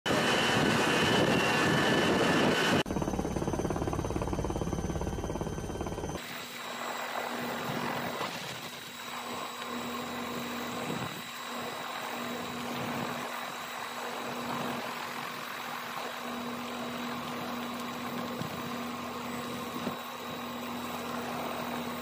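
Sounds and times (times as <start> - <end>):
helicopter hum and whine: 0.1 - 22.0
helicopter rotor chop: 0.1 - 22.0.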